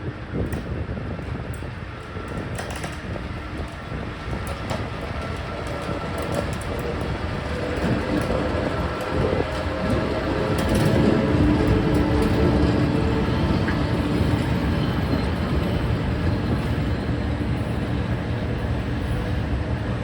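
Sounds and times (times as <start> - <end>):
electric train passing: 0.0 - 20.0
wheels clacking over rail joints: 0.3 - 20.0.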